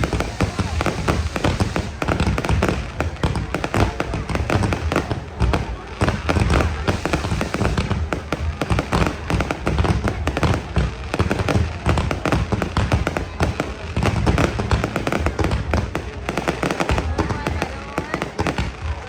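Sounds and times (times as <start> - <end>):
deep fireworks booms: 0.0 - 19.0
fireworks bangs and crackles: 0.0 - 19.0.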